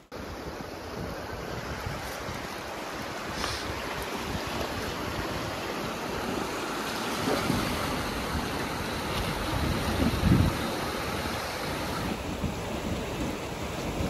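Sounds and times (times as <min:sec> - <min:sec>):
river water rushing: 0:00.0 - 0:14.0
wind rumble on microphone: 0:00.2 - 0:06.2, 0:07.1 - 0:14.0.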